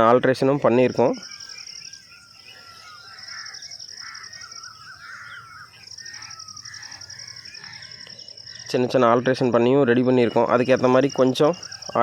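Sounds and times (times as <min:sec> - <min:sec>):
birds chirping and warbling: 0:00.0 - 0:12.0
insect pulsing trill: 0:00.0 - 0:12.0.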